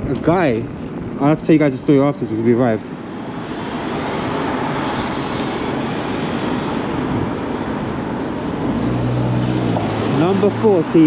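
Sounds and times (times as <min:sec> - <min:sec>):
road noise: 0:00.0 - 0:11.0
rushing wind on microphone: 0:00.0 - 0:11.0.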